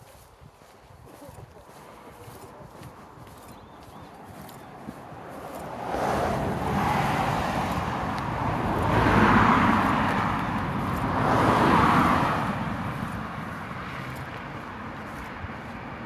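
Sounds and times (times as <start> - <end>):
cars passing on wet road: 1.7 - 16.0.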